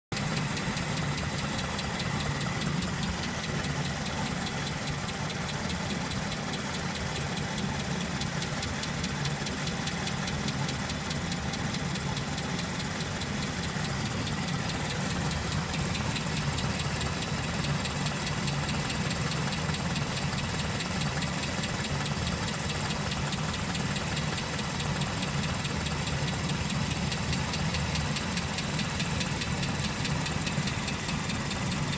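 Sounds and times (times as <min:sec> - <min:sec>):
engine idling: 0:00.1 - 0:31.9
fast regular ticking: 0:00.2 - 0:31.9.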